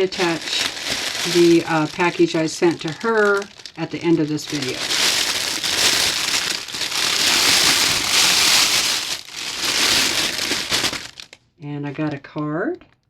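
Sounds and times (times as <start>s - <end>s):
packaging crinkling and crumpling: 0.0s - 11.5s.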